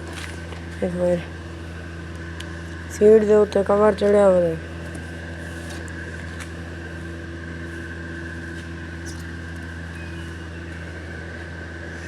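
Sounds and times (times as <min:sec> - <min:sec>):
faint high whine: 0:00.0 - 0:12.0
low mechanical drone: 0:00.0 - 0:12.0.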